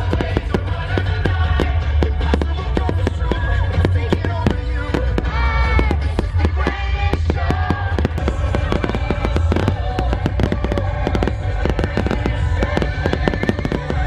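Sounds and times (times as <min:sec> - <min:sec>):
deep booming rumble: 0:00.0 - 0:14.0
fireworks bangs and crackling: 0:00.0 - 0:14.0.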